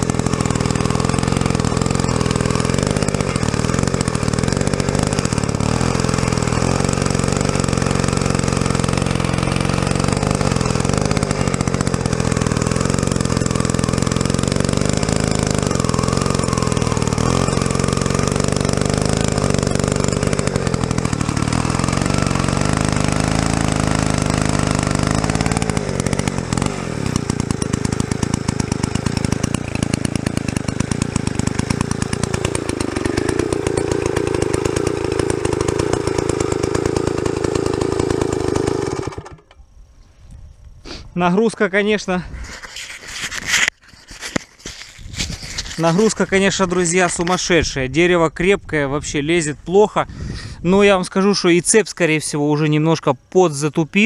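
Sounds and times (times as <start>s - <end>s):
chainsaw labouring under load: 0.0s - 39.6s, 42.4s - 47.5s.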